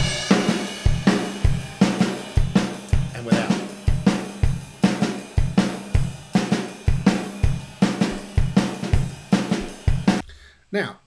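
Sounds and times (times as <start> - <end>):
acoustic drum kit groove: 0.0 - 10.3.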